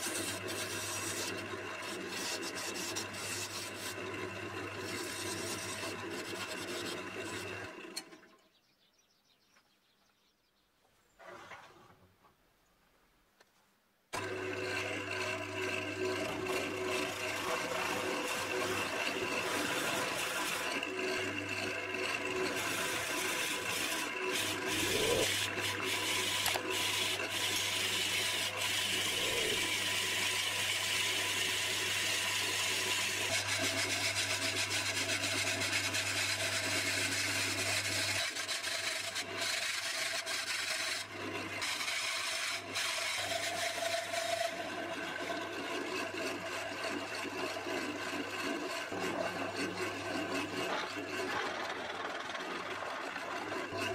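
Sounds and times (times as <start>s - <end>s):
drill bit boring into wood: 0.0s - 8.3s, 14.1s - 53.9s
wood lathe humming: 0.0s - 8.3s, 14.1s - 53.9s.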